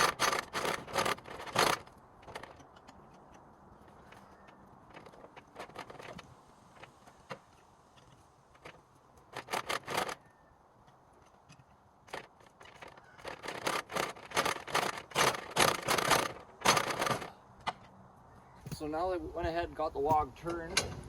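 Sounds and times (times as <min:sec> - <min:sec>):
log scraping and clattering: 0:00.0 - 0:18.0.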